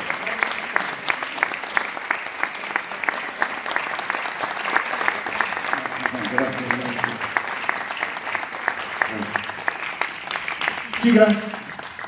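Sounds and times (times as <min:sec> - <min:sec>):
audience applauding: 0:00.0 - 0:12.0
sharp evenly spaced claps: 0:00.8 - 0:12.0.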